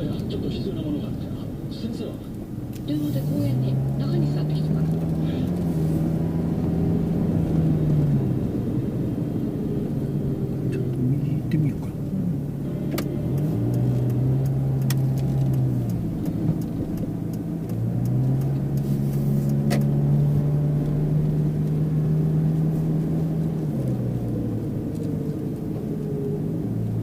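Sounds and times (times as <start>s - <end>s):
road noise: 0.0s - 27.0s
small car engine revving: 0.0s - 27.0s.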